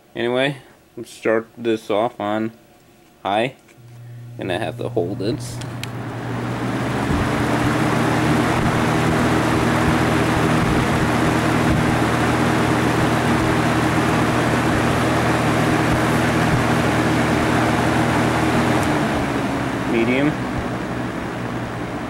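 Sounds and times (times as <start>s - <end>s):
box fan motor hum: 3.7s - 22.0s
air rushing from fan blades: 3.8s - 22.0s.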